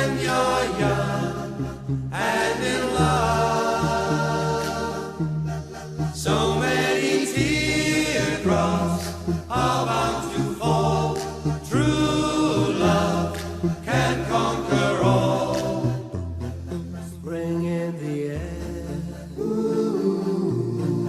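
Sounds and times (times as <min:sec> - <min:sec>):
song with singing voices: 0:00.0 - 0:21.0.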